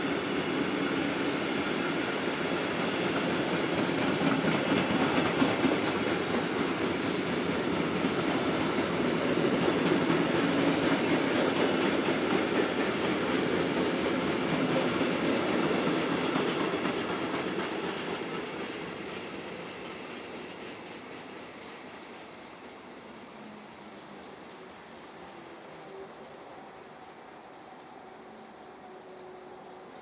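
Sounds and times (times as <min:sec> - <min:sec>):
train wheels clattering: 0:00.0 - 0:30.0.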